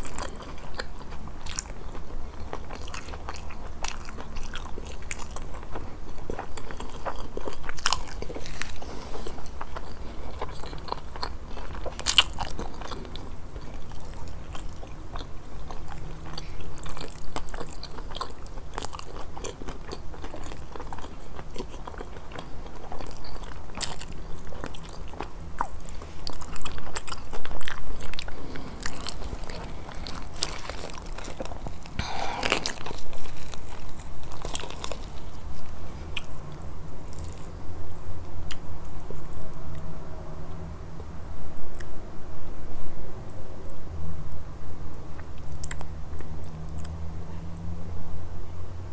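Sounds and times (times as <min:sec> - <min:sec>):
person chewing crunchy food: 0:00.0 - 0:39.4.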